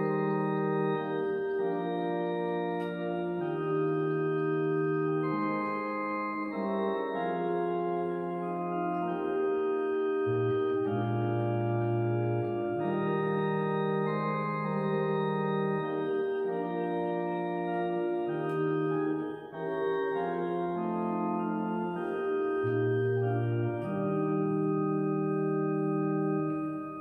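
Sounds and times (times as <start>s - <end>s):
organ playing a hymn: 0.0s - 27.0s.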